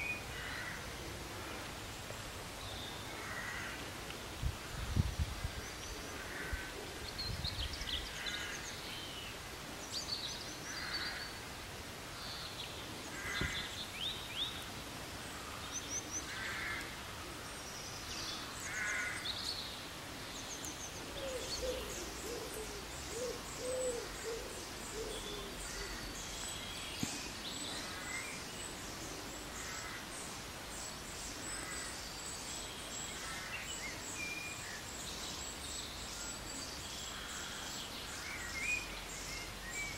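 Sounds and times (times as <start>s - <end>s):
birds twittering: 5.4s - 11.4s, 12.2s - 39.9s
birds calling: 5.4s - 11.5s, 12.2s - 39.9s.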